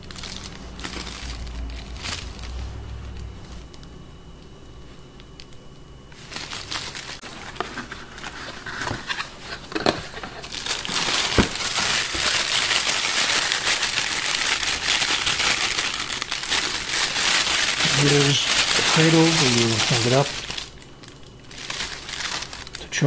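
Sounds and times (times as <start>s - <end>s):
plastic bag crinkling: 0.0s - 3.9s, 5.4s - 23.0s.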